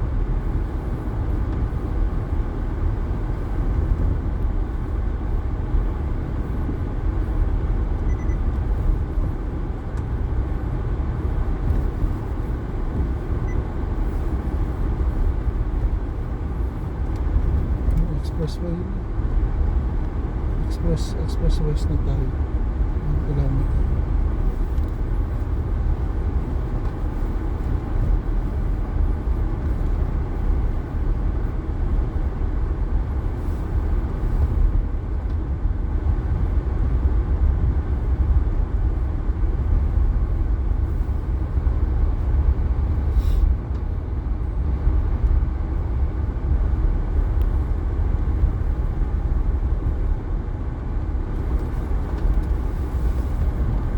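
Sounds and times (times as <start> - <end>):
car driving on highway: 0.0 - 53.9.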